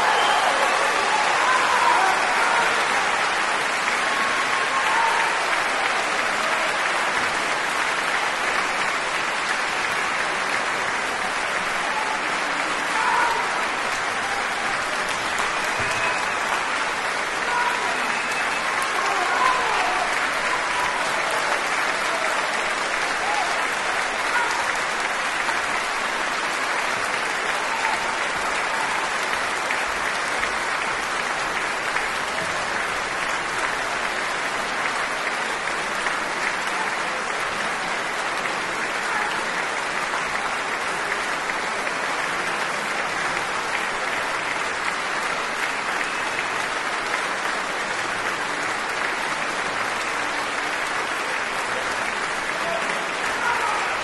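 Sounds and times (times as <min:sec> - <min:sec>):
large audience applauding: 0:00.0 - 0:54.0.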